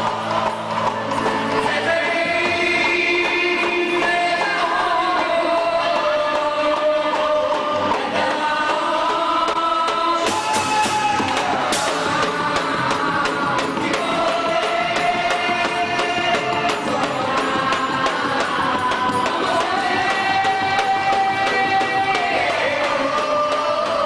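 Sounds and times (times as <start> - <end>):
quick percussion beat: 0.0 - 24.0.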